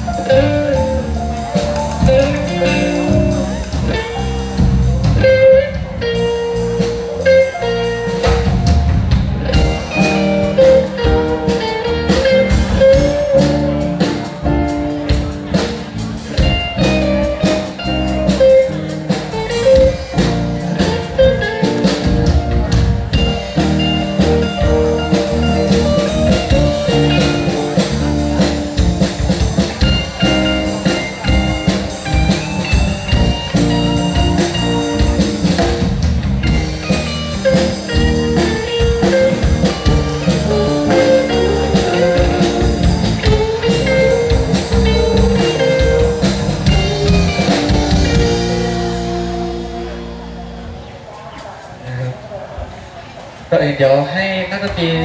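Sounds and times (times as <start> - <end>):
bass: 0.0 - 51.2
drum kit: 0.0 - 51.8
guitar: 0.0 - 53.5
keyboard: 0.0 - 55.0.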